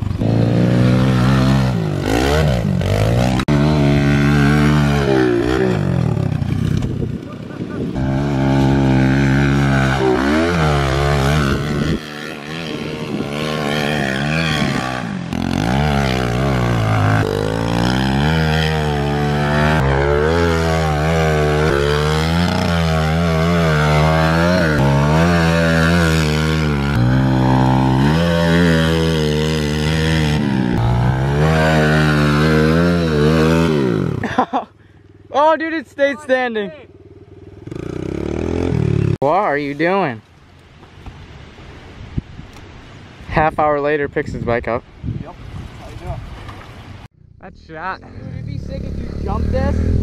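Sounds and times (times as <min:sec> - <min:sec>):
pit bike engine revving: 0:00.0 - 0:39.3, 0:47.1 - 0:50.0.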